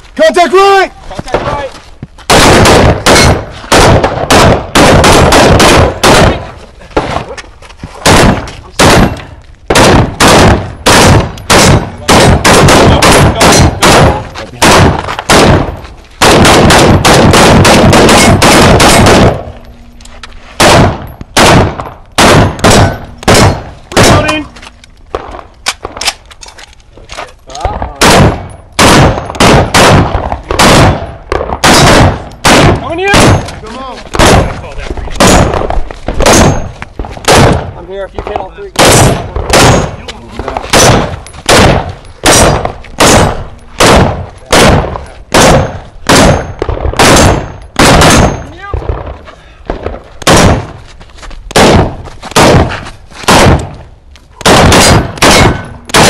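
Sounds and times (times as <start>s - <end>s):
rapid semi-automatic gunfire: 2.3s - 6.5s, 8.0s - 19.5s, 20.6s - 24.4s, 27.8s - 33.5s, 34.2s - 34.6s, 35.2s - 50.8s, 51.5s - 53.8s, 54.4s - 56.0s.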